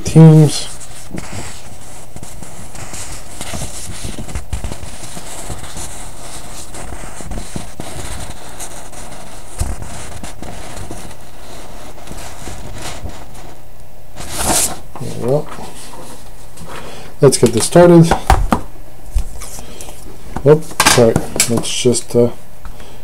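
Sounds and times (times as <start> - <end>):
background hiss: 0.0 - 23.0
low electrical hum: 0.0 - 23.0.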